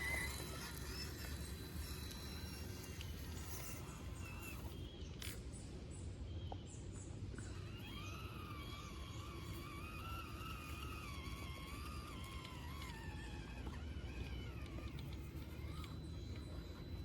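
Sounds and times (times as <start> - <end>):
steady wavering whine: 0.0 - 17.0.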